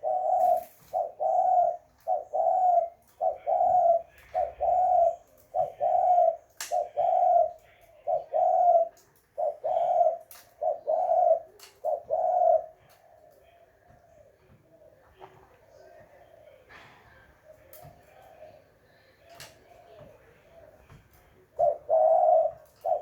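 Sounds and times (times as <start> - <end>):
dove cooing: 0.0 - 15.4, 17.4 - 23.0.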